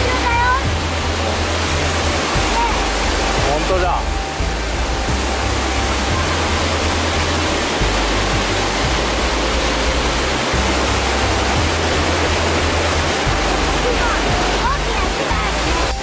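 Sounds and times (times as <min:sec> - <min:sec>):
waterfall and rapids rushing over rocks: 0:00.0 - 0:16.0.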